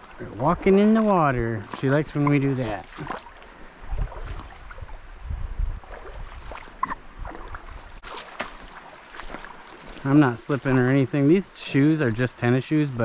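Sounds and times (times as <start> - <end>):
water sloshing around wading feet: 0.0 - 13.0.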